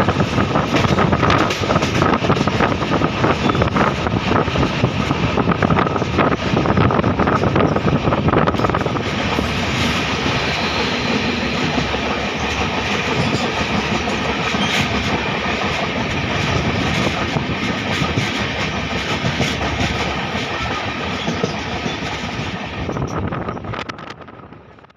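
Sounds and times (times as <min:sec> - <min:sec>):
train wheels clattering over rails: 0:00.0 - 0:24.2
train rushing running noise: 0:00.0 - 0:24.9.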